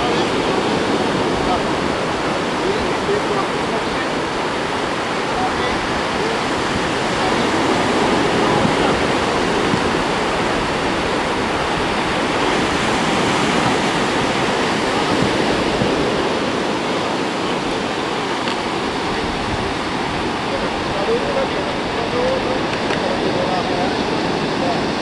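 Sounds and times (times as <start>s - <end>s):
sea surf breaking: 0.0s - 25.0s.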